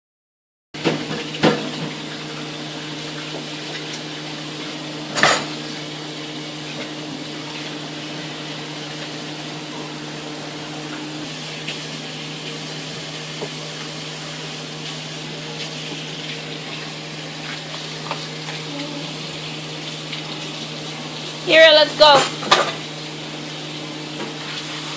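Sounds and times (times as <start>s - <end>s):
refrigerator hum: 0.8s - 24.9s.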